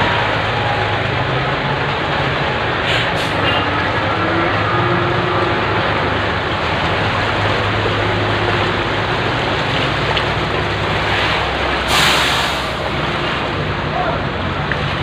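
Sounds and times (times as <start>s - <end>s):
floodwater churning and sloshing: 0.0s - 15.0s
truck engine humming: 0.0s - 15.0s.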